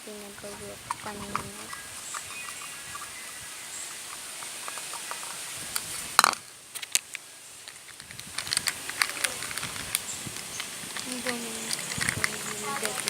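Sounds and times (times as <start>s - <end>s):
small hard objects clattering: 0.2s - 3.0s, 4.0s - 13.0s.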